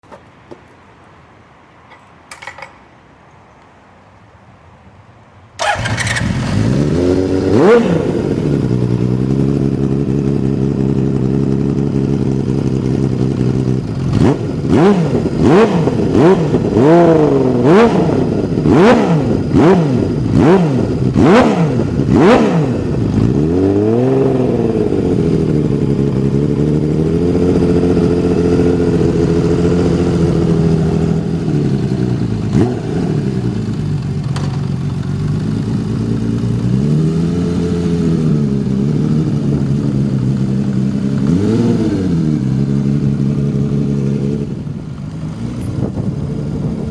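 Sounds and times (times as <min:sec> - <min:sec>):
motorcycle engine idling and revving: 0:05.6 - 0:46.9.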